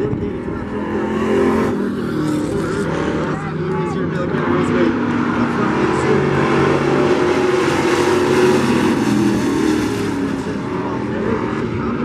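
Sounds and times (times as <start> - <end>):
race truck engines running hard: 0.0 - 12.0.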